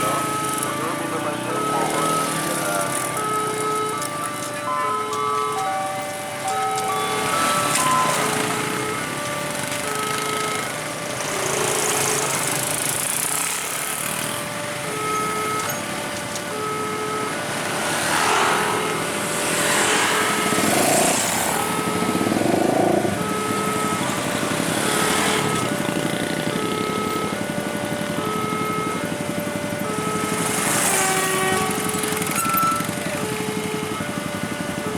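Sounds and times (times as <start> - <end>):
level crossing two-note alarm: 0.0 - 10.7, 14.9 - 27.5, 29.8 - 34.9
motorcycle engines passing: 0.0 - 34.8.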